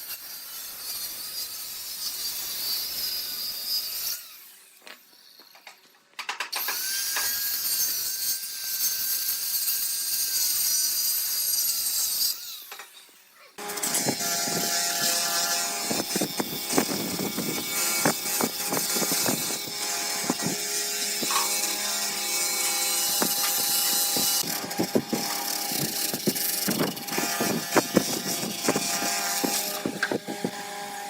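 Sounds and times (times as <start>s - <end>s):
woodworking power tools whining: 0.0s - 31.0s.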